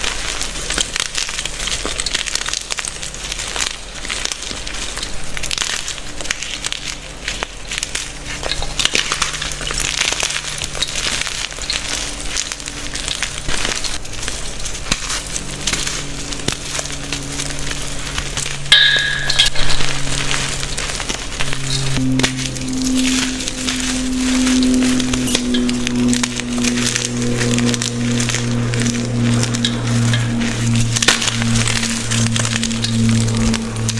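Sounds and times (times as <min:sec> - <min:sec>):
hands crunching chalk: 0:00.0 - 0:33.9.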